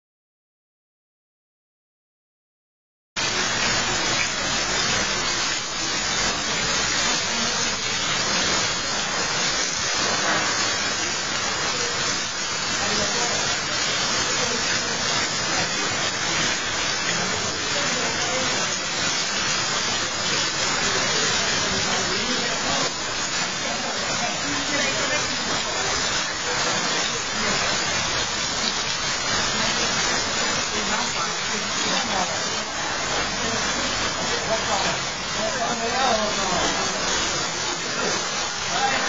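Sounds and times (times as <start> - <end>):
heavy rain pouring: 3.2 - 39.0
water streaming off eaves: 3.2 - 39.0.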